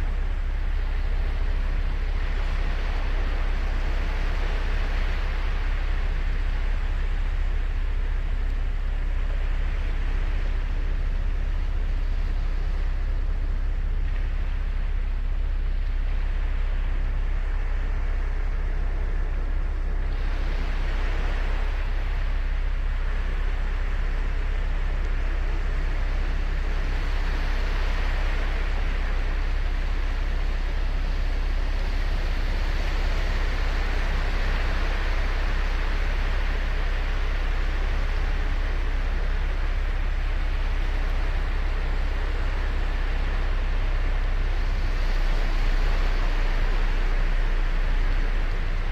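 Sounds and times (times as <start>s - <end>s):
waves breaking on beach: 0.1s - 7.8s, 15.7s - 48.9s.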